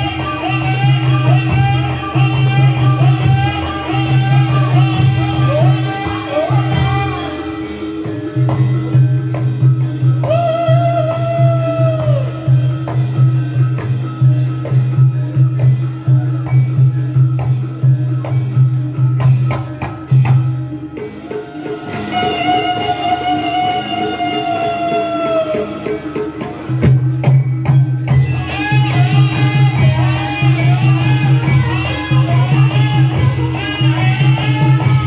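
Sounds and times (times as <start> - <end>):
held melodic line: 0.0 - 35.0.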